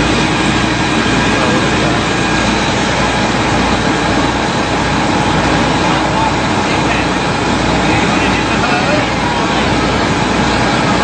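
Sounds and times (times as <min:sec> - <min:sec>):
fire truck engine idling: 0:00.0 - 0:11.0.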